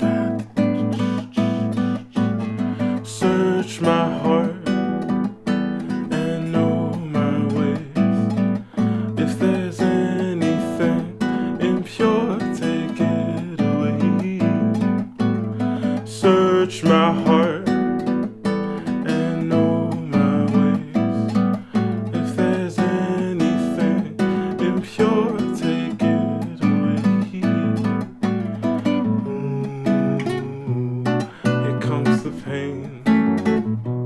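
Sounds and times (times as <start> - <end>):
man singing wordless melody: 0.0 - 33.8
acoustic guitar: 0.0 - 34.0.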